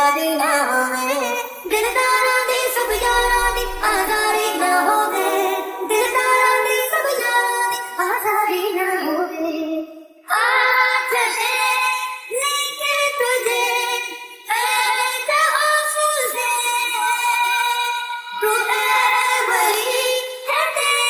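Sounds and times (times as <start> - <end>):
sped-up singing voice: 0.0 - 21.0.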